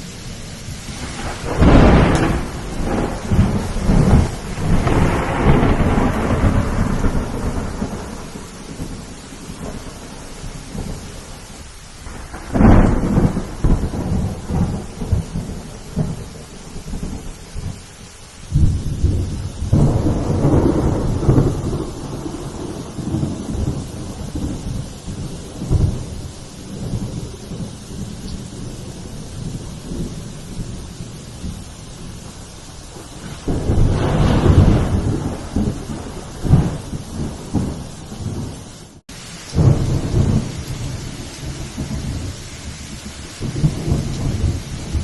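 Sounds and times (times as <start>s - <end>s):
rolling thunder: 0.0s - 17.9s, 18.5s - 45.0s
steady rain: 0.0s - 45.0s
thunder crack: 0.7s - 11.0s, 12.0s - 17.8s, 18.5s - 45.0s.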